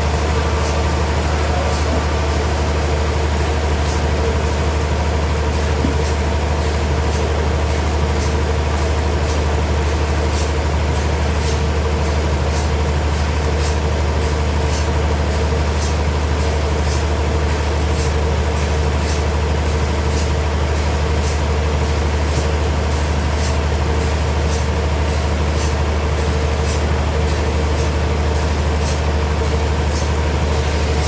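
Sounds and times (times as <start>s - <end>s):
sawmill machinery hum: 0.0s - 31.0s.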